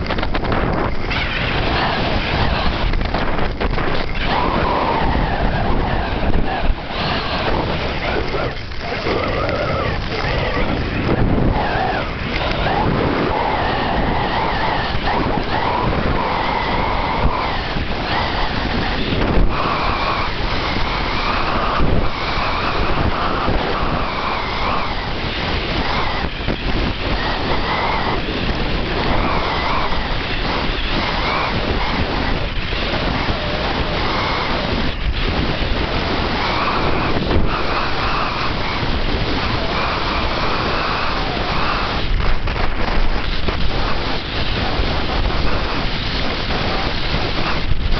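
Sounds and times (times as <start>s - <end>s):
skis scraping over snow: 0.0s - 47.9s
wind on microphone: 0.0s - 47.9s.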